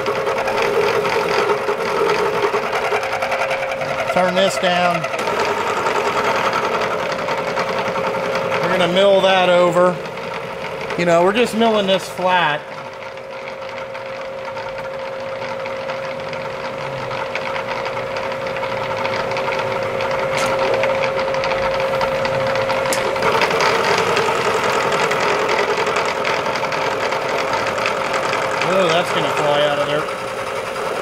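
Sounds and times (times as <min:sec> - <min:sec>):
metal cutting noise: 0:00.0 - 0:13.2, 0:16.6 - 0:31.0
milling machine whine: 0:00.0 - 0:31.0.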